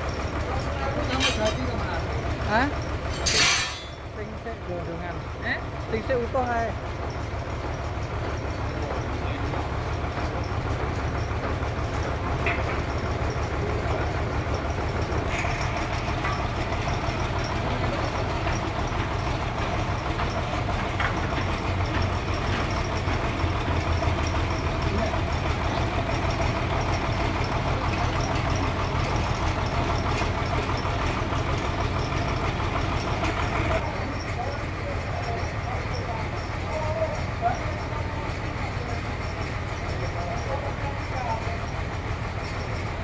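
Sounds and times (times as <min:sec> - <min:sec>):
sawmill drive droning: 0:00.0 - 0:43.0.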